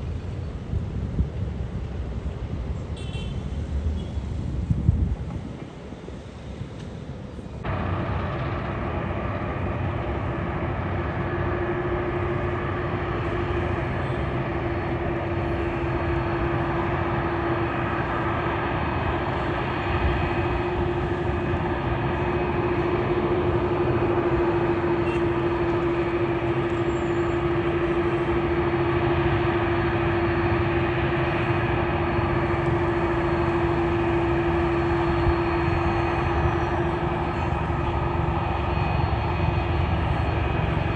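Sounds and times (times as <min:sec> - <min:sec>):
airliner engines rushing: 0:00.0 - 0:40.9.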